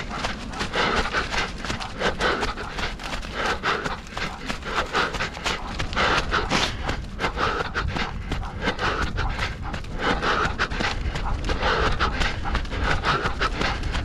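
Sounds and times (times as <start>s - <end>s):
quick footfalls on a trail: 0.0s - 14.0s
runner panting hard: 0.0s - 14.0s.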